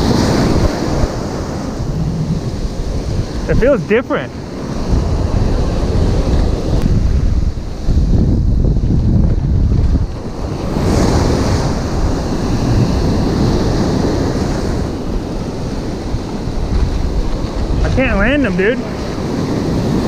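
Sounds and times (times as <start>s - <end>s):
ocean surf washing ashore: 0.0s - 20.0s
wave breaking: 0.0s - 20.0s
wind buffeting microphone: 0.0s - 20.0s.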